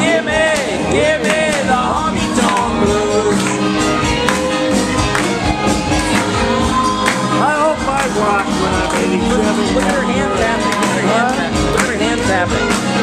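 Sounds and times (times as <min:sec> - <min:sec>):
loud dance music with singing: 0:00.0 - 0:13.0.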